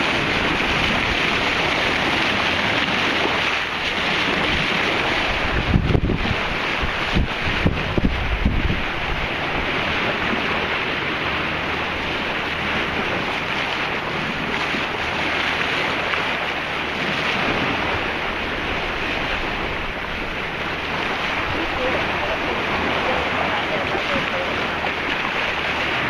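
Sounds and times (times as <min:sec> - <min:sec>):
sea water rushing: 0:00.0 - 0:26.0
wind: 0:00.0 - 0:26.0
wind buffeting microphone: 0:00.0 - 0:26.0.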